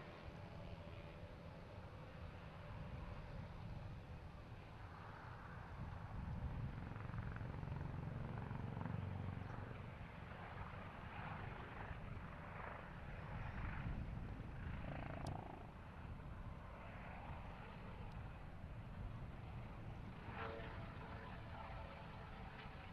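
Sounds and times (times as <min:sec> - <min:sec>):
helicopter rotor rumble: 0:00.1 - 0:22.9.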